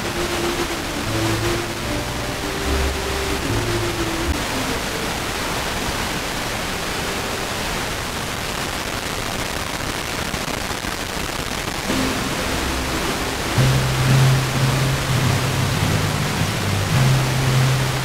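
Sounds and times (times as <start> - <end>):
faint classical music on radio: 0.0 - 9.1, 10.7 - 18.0
radio static hiss: 0.0 - 18.0.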